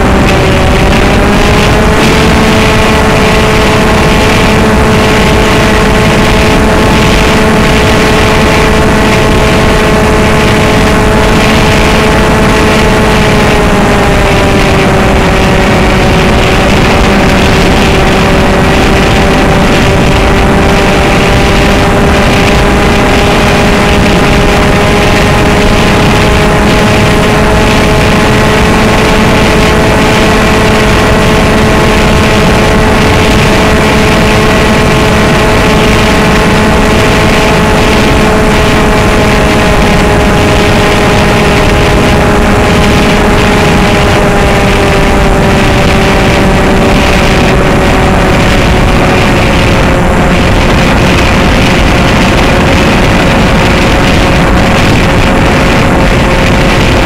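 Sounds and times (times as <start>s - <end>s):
model plane motor whining: 0.0s - 57.0s
wind noise: 0.0s - 57.0s.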